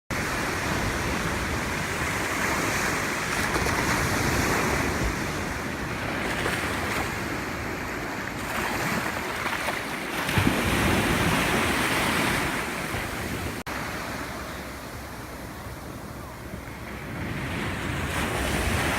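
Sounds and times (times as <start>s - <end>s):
ocean surf washing onto beach: 0.1s - 18.9s
wind rumbling on microphone: 0.1s - 18.9s.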